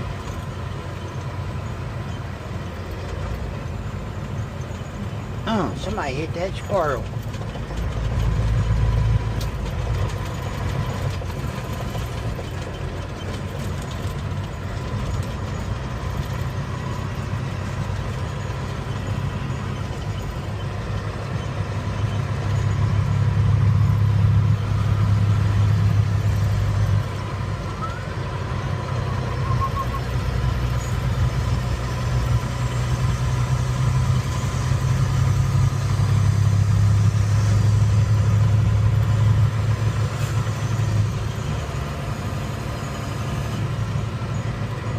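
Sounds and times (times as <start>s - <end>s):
truck engine and road noise: 0.0s - 44.9s.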